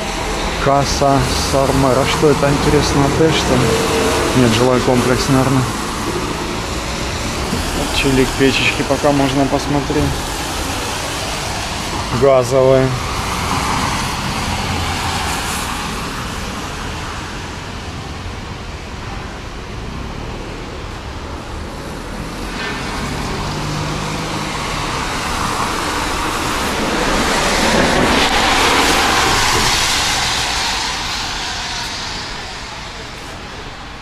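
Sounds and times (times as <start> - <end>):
cars passing with tyre hiss: 0.0 - 34.0.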